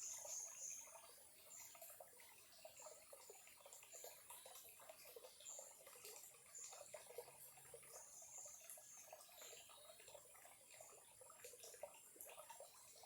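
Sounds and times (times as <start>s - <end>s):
small stream trickling: 0.0s - 13.0s.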